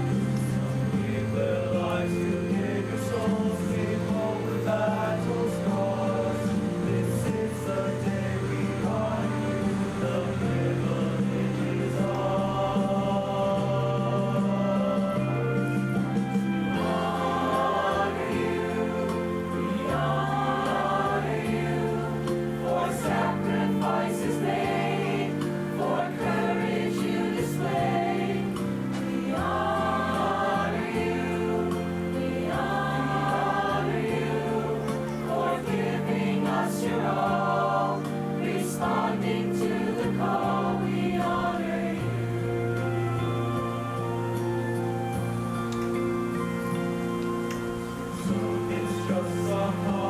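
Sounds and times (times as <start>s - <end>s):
choir singing held chords: 0.0s - 50.0s.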